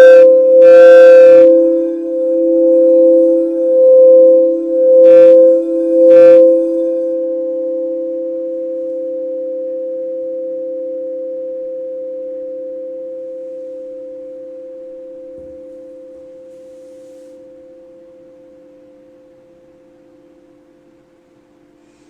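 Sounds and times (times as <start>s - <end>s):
singing bowls ringing: 0.0s - 20.4s.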